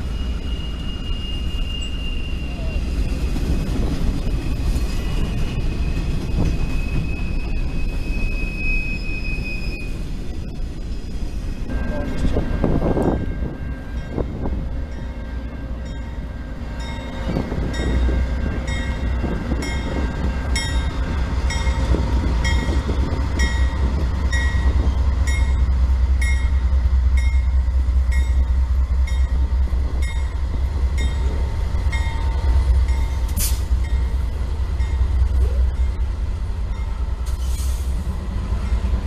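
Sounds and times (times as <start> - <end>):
diesel locomotive engine rumble: 0.0 - 39.0
locomotive bell ringing: 5.0 - 37.2.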